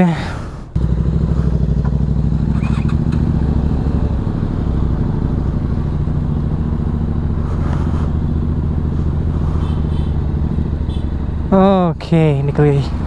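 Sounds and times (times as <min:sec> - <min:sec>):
motorcycle engine idling: 0:00.7 - 0:12.5.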